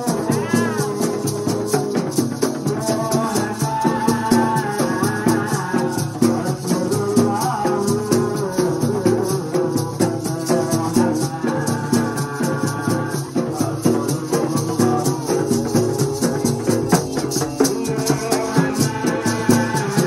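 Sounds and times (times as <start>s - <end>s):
hand drums: 0.0s - 20.0s
maracas shaken: 0.0s - 20.0s
person singing: 0.0s - 20.0s.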